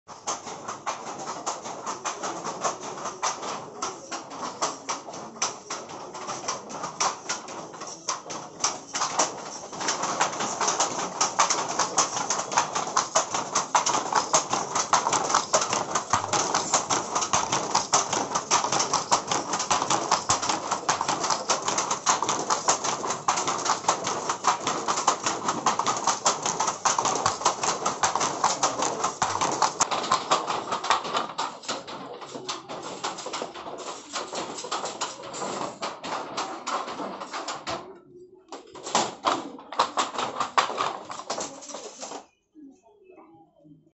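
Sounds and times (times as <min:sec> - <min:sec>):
handlooms clacking: 0:00.1 - 0:38.0, 0:38.6 - 0:42.2.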